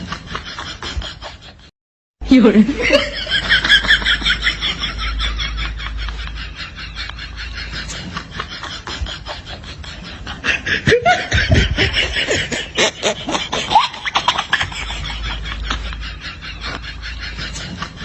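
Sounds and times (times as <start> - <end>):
person laughing: 2.6 - 18.0.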